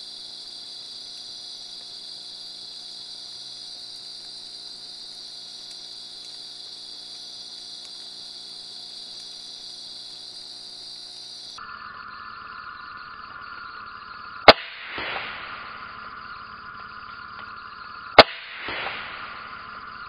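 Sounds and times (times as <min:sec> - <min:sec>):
crickets chirping: 0:00.0 - 0:20.0
low insect drone: 0:00.0 - 0:20.0.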